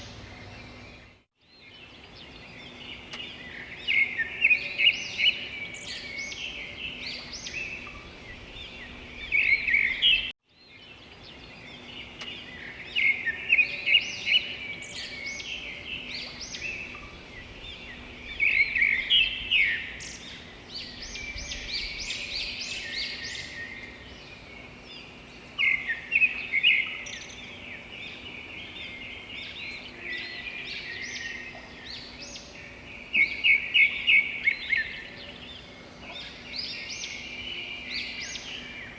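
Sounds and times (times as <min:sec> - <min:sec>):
songbirds singing and chirping: 0:00.0 - 0:38.9.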